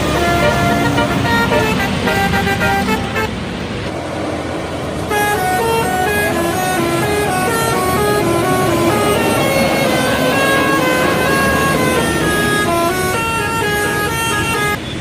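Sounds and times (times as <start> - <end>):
bus horn playing a tune: 0.0 - 3.6, 5.1 - 14.8.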